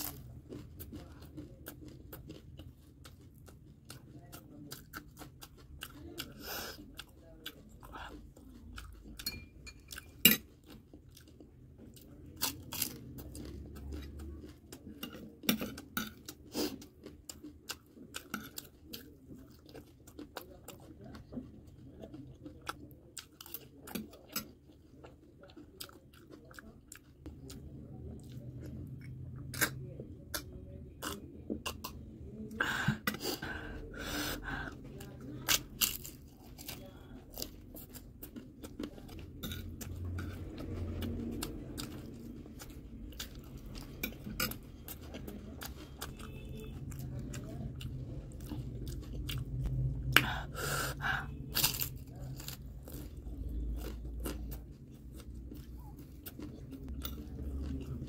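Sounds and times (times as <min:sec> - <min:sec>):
chewing and crunching crisp snacks: 0:00.0 - 0:58.0.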